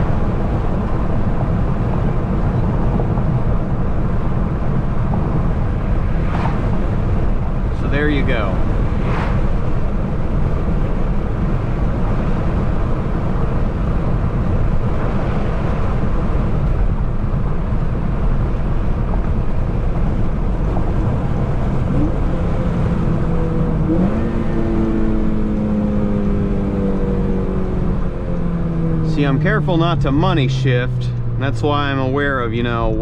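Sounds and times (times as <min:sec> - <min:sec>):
car engine running: 0:00.0 - 0:33.0
road noise: 0:00.0 - 0:33.0.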